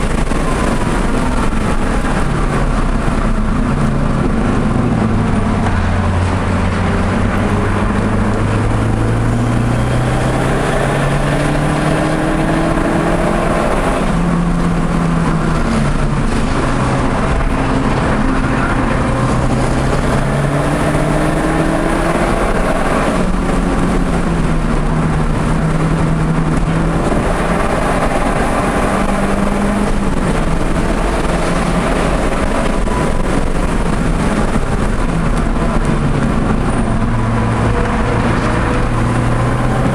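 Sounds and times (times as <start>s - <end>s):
car engine accelerating through gears: 0.0s - 39.9s
wind and road noise: 0.0s - 39.9s.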